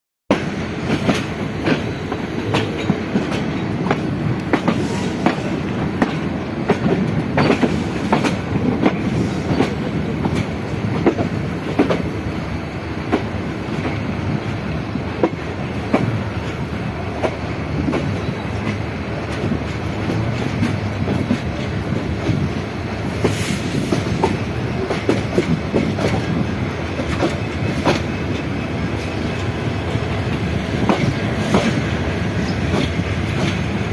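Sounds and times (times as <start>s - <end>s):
wheels clacking over rail joints: 0.3s - 12.2s, 15.2s - 33.9s
train rumbling: 0.3s - 33.9s.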